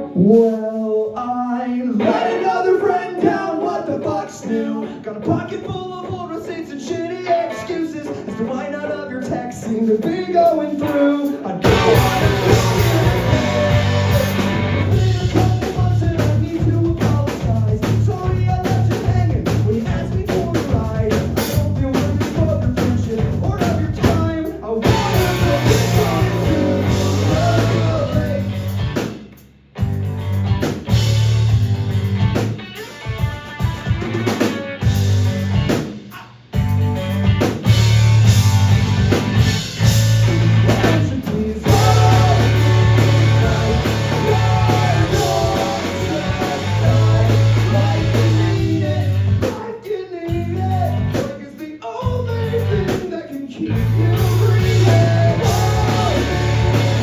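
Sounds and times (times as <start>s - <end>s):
live rock band playing: 4.4s - 49.6s, 50.3s - 51.4s, 52.2s - 57.0s.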